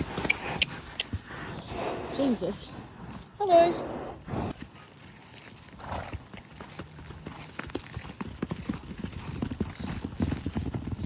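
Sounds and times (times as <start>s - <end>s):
horses' hooves striking ground: 0.0s - 11.0s.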